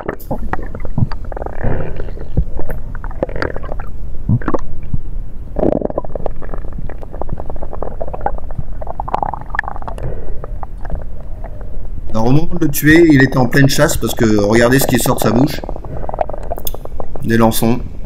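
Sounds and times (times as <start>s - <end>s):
underwater gurgling and bubbling: 0.0s - 12.1s, 12.8s - 17.4s.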